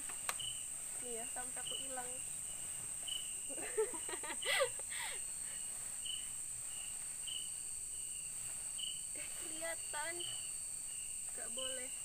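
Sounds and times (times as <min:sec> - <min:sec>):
cricket chirping: 0:00.0 - 0:12.0
insects buzzing: 0:00.0 - 0:12.0.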